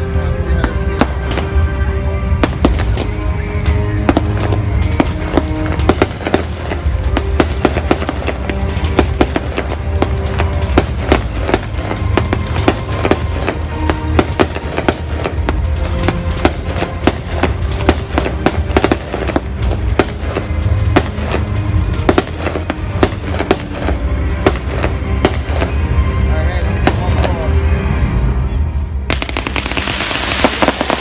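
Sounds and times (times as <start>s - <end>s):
music playing: 0.0s - 31.0s
fireworks bangs and crackles: 0.1s - 27.6s, 29.0s - 31.0s.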